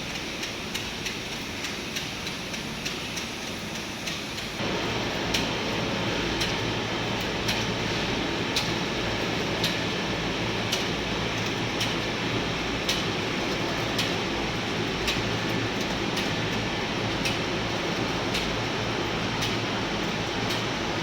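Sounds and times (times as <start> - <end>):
production line machine hum: 0.0 - 21.0.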